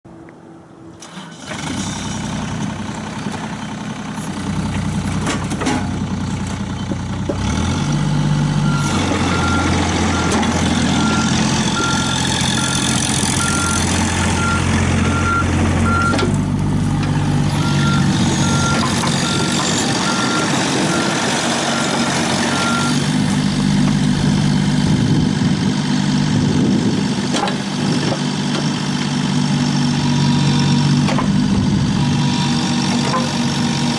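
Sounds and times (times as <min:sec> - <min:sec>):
diesel engine starting and running: 0:00.2 - 0:33.9.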